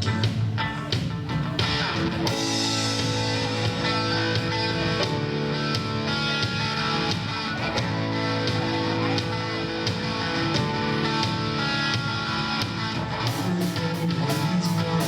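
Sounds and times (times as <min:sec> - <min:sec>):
drum beat: 0:00.0 - 0:15.0
electric guitar: 0:00.0 - 0:15.0.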